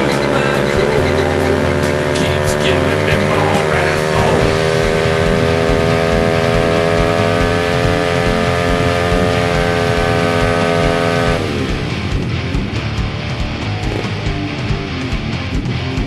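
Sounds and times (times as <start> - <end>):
engine revving high: 0.0 - 16.0.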